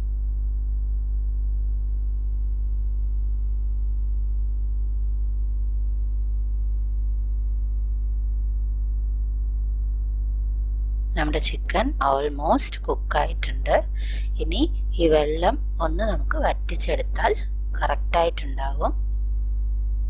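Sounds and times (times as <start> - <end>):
low hum with buzzing overtones: 0.0 - 20.0.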